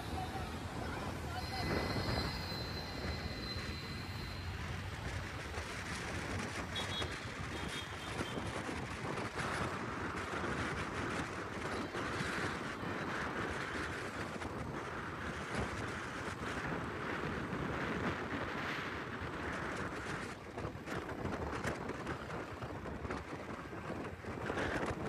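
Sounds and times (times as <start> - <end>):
road traffic noise: 0.0 - 25.0
wind buffeting microphone: 0.0 - 25.0.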